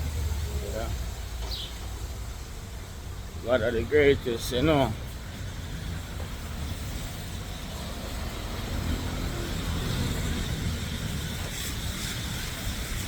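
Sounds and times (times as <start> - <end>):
rumble of passing vehicles: 0.0 - 13.0.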